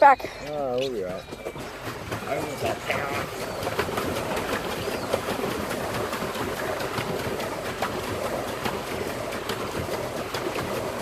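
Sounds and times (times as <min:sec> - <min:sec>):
paddle wheel churning water: 0:00.0 - 0:11.0.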